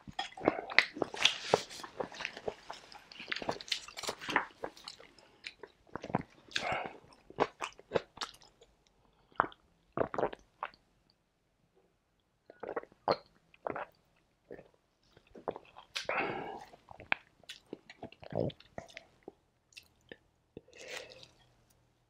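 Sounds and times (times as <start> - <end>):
chewing with wet clicks and smacks: 0.0 - 10.8, 12.5 - 21.5.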